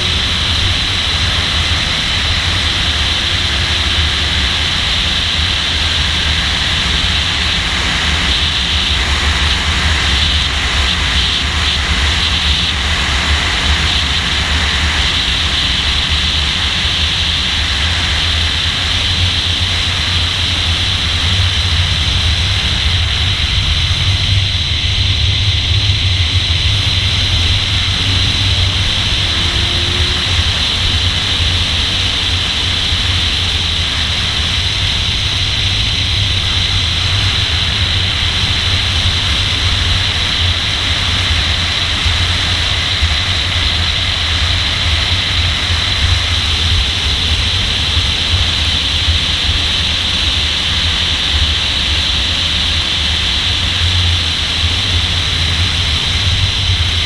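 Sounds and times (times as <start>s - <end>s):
car road noise: 0.0s - 57.0s
low even drone: 0.0s - 57.0s
rushing wind: 0.0s - 57.0s.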